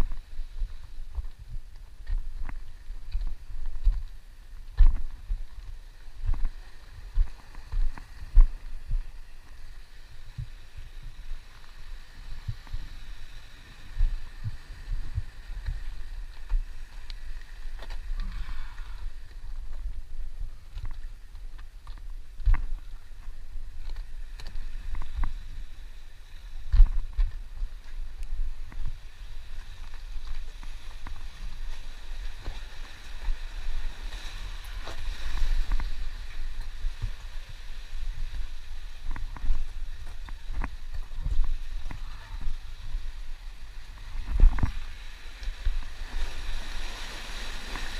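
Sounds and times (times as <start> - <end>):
faint wash of sea water: 0.0 - 47.9.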